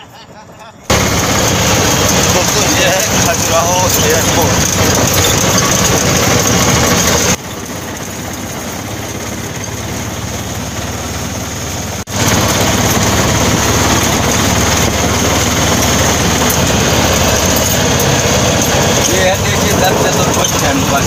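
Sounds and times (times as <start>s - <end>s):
auto-rickshaw engine: 0.0s - 21.0s
road noise: 0.0s - 21.0s.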